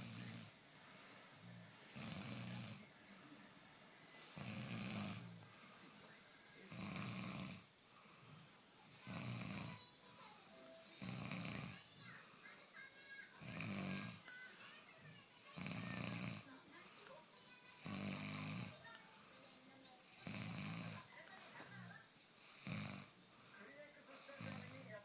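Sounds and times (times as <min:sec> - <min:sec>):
rhythmic snoring: 0:00.0 - 0:25.0.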